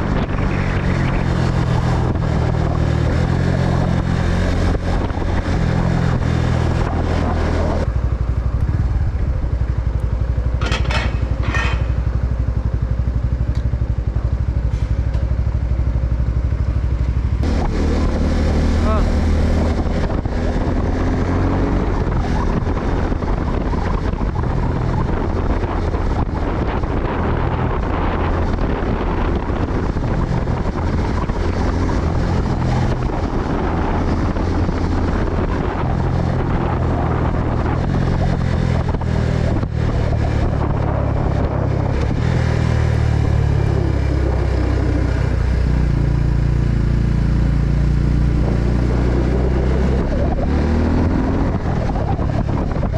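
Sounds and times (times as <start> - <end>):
motorcycle engine running: 0.0 - 52.9
wind rumble on microphone: 0.0 - 52.9.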